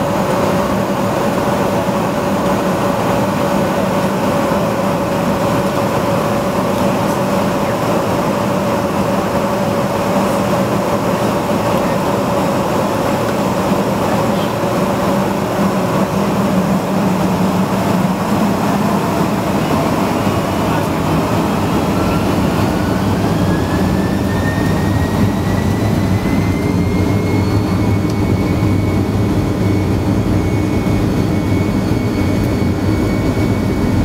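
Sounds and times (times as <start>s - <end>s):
airliner cabin hum: 0.0s - 34.0s
jet engine whine: 0.0s - 34.0s
low engine drone: 0.0s - 34.0s.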